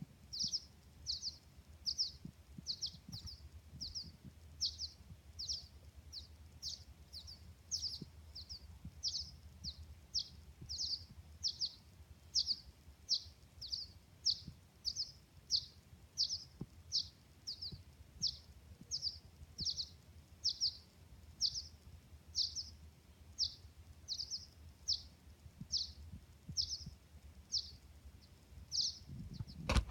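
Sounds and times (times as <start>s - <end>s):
baby birds chirping: 0.3s - 22.8s, 23.4s - 29.6s.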